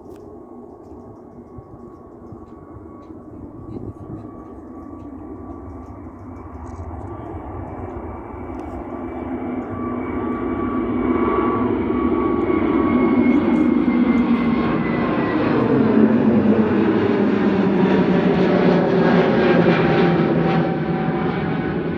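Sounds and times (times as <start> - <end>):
jet engines at takeoff: 0.0 - 21.9.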